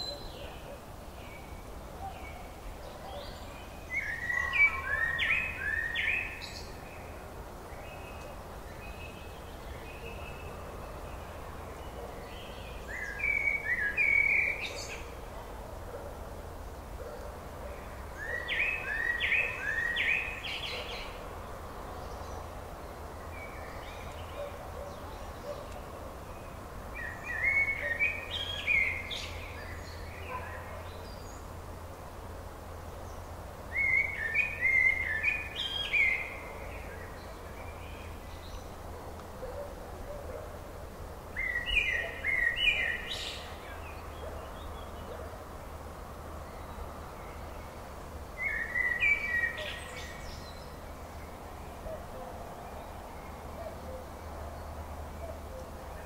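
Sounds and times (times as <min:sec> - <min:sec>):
low rumble and hiss: 0:00.0 - 0:56.0.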